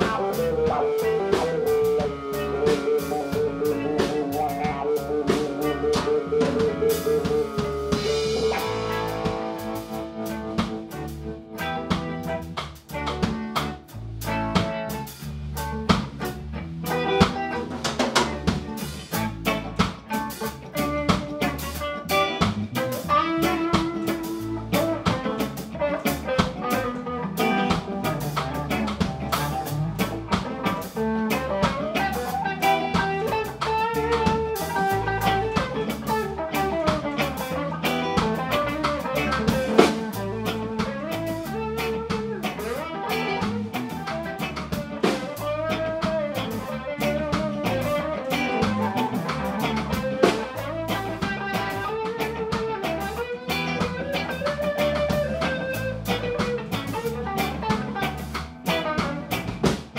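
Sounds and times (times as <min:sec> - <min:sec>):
deep bass notes: 0:00.0 - 0:59.9
drum kit with rimshots: 0:00.0 - 0:59.9
electric guitar with bent notes: 0:00.0 - 0:59.9.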